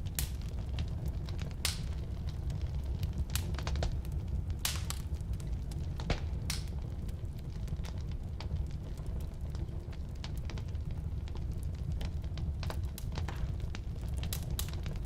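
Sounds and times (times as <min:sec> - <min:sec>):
fire burning: 0:00.0 - 0:15.0
firewood crackling and popping: 0:00.0 - 0:15.0.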